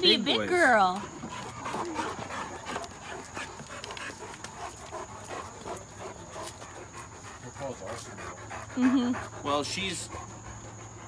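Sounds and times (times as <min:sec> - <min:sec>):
dogs panting: 0:00.0 - 0:11.0.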